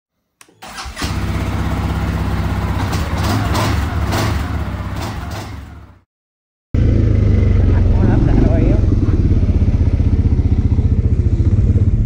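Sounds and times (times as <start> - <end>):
engine running: 0.4 - 6.0, 6.8 - 12.0.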